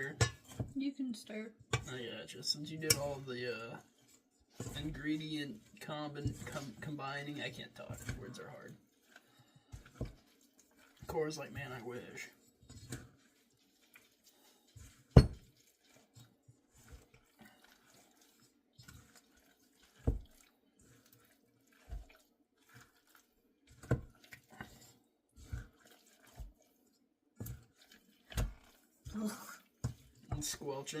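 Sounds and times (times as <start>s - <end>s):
dip being stirred in a bowl: 0.0s - 31.0s.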